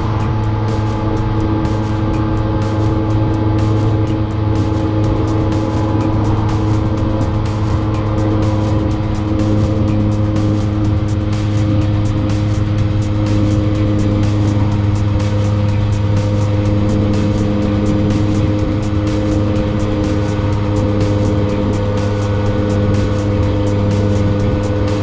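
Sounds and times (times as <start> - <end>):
fast even engine ticking: 0.0 - 25.0
scooter engine running: 0.0 - 25.0.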